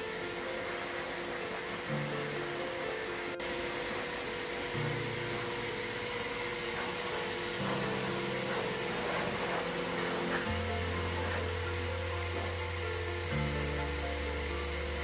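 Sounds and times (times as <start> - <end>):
background music: 0.0 - 15.0
pet blow dryer rushing air: 0.0 - 15.0.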